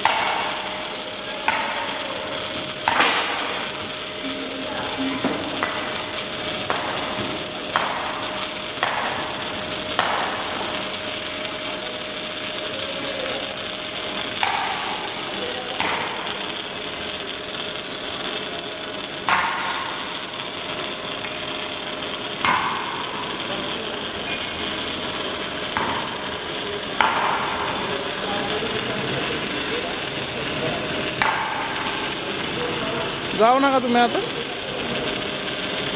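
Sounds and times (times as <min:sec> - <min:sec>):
mig welding crackling hiss: 0:00.0 - 0:35.9.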